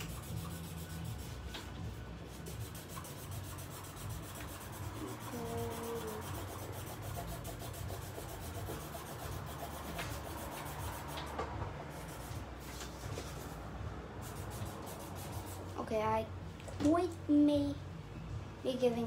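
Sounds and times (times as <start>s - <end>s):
marker scratching on paper: 0.0s - 15.9s.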